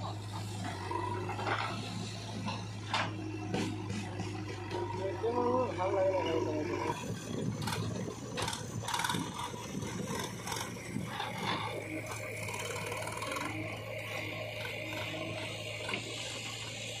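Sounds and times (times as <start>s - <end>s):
diesel tractor engine: 0.0s - 17.0s.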